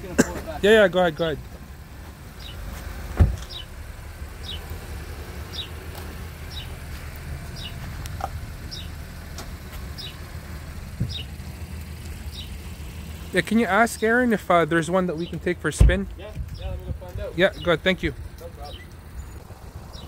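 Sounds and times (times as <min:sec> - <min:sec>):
car engine hum: 0:00.0 - 0:20.0.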